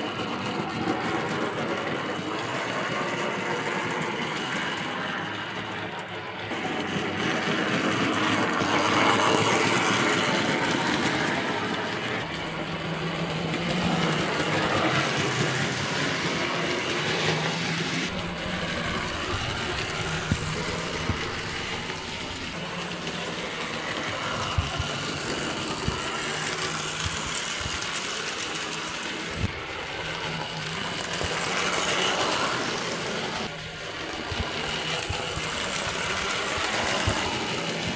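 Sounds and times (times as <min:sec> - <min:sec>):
model train motor whirring: 0:00.0 - 0:37.9
wheels rattling on track: 0:00.0 - 0:37.9.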